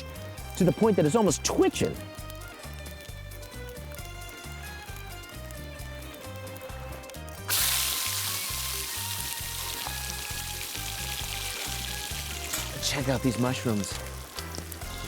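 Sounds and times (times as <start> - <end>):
background music with steady beat: 0.0 - 15.0
fish sizzling in hot oil: 0.2 - 15.0.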